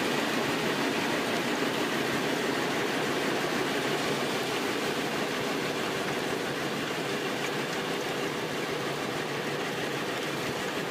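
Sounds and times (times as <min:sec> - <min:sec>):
compost turner engine and drum: 0:00.0 - 0:10.9
rush of churned compost: 0:00.0 - 0:10.9.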